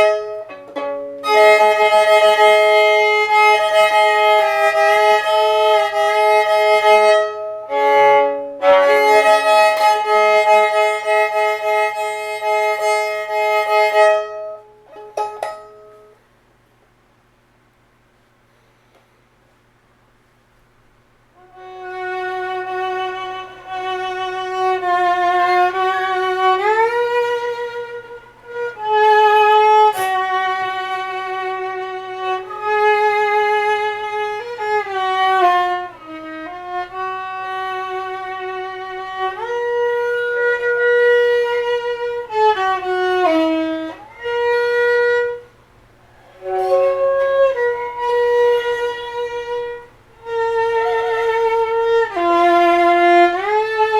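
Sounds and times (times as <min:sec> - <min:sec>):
solo violin playing: 0:00.0 - 0:16.2, 0:21.4 - 0:53.9
faint steady hum: 0:00.0 - 0:53.9.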